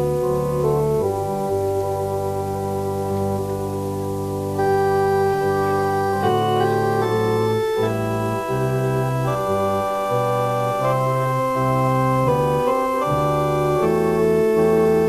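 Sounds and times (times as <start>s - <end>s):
organ playing stately chords: 0.0s - 15.0s.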